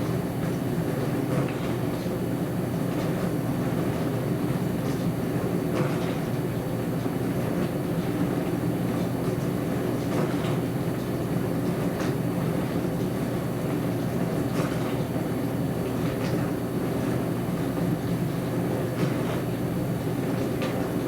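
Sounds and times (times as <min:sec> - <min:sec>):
dishwasher motor hum: 0:00.0 - 0:21.0.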